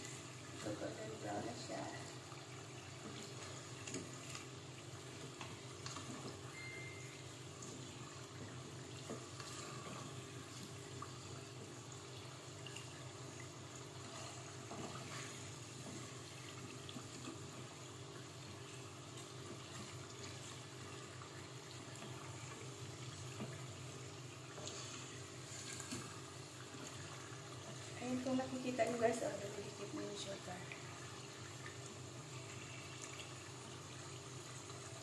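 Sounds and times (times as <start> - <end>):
oil sizzling and bubbling: 0.0 - 35.0.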